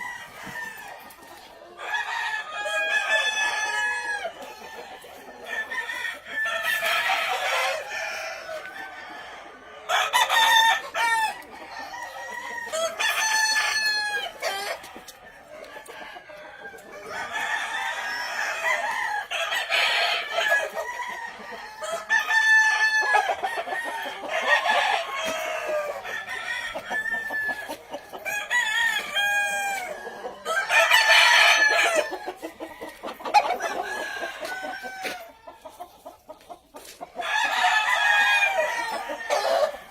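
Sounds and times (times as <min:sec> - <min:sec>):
chickens clucking: 0:00.0 - 0:39.9
roosters crowing: 0:00.0 - 0:39.9.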